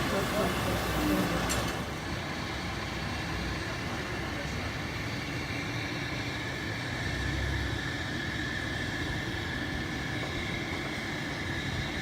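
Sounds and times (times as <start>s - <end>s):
forklift engine rumbling: 0.0s - 12.0s.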